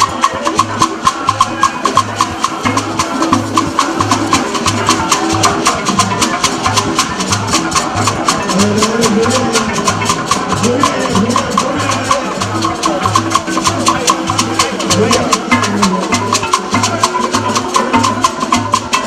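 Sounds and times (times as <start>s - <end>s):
shaker-like ticks: 0.0s - 19.0s.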